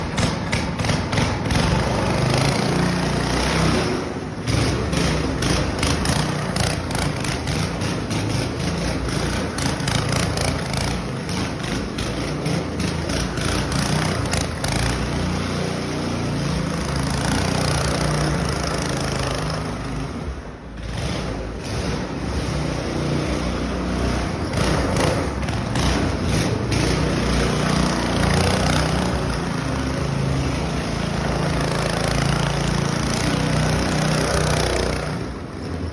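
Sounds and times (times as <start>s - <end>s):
small petrol engine running: 0.0s - 35.9s.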